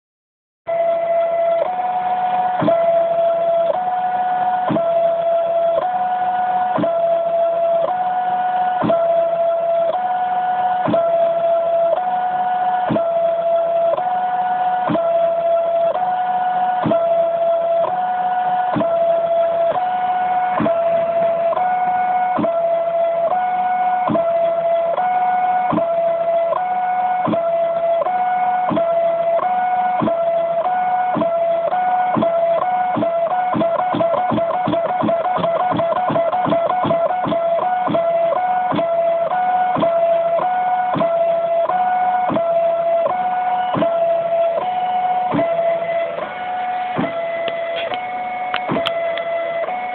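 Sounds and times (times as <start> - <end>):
stepper motors whining: 0.7 - 49.9.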